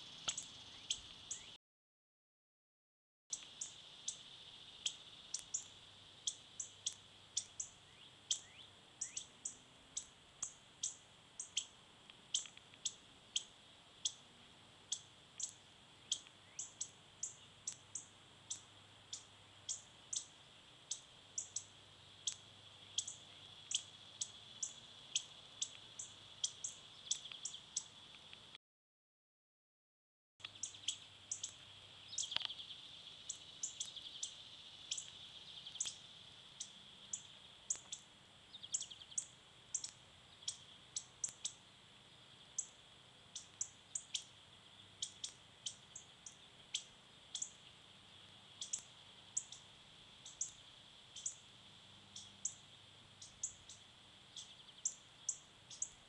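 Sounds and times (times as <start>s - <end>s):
bird chip calls: 0.2s - 1.6s, 3.3s - 4.2s, 4.8s - 14.2s, 14.9s - 20.3s, 20.9s - 28.0s, 30.4s - 36.0s, 36.6s - 41.6s, 42.5s - 47.6s, 48.6s - 50.6s, 51.2s - 51.4s, 53.2s - 56.0s.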